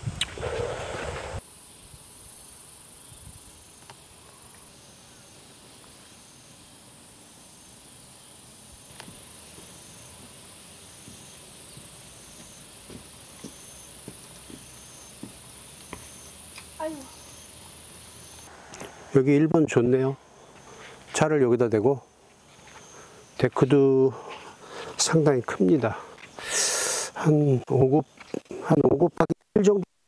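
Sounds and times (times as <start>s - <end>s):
insects buzzing: 0.0s - 29.8s
insects chirping: 0.0s - 29.8s.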